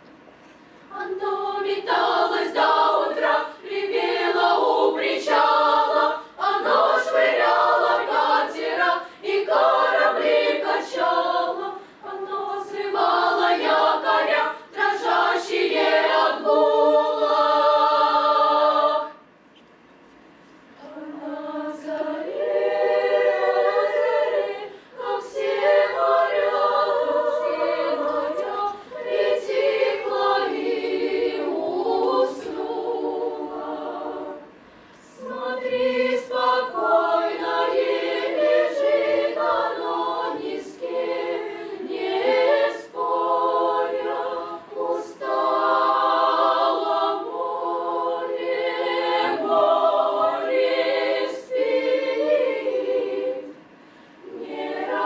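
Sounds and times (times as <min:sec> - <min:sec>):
choir singing a cappella: 0:00.9 - 0:19.3, 0:20.8 - 0:55.0.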